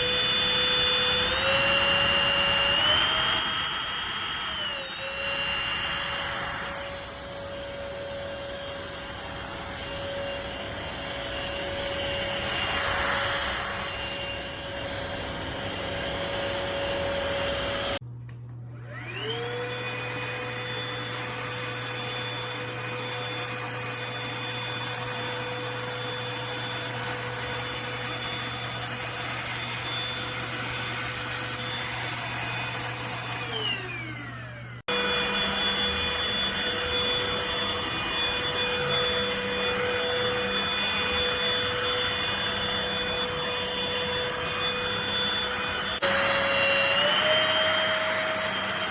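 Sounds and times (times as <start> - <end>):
vacuum cleaner motor whining: 0.0 - 48.9.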